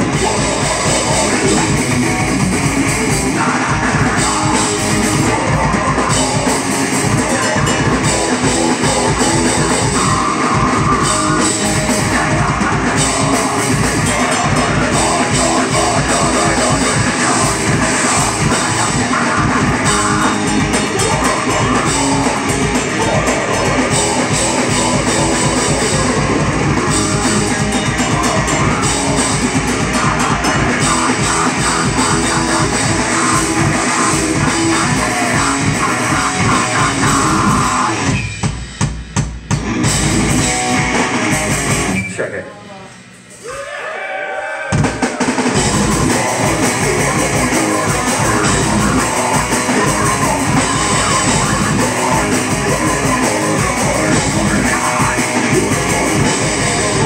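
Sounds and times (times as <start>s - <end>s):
rapid drumming: 0.0s - 42.0s, 44.7s - 57.0s
distorted electric guitar: 0.0s - 57.0s.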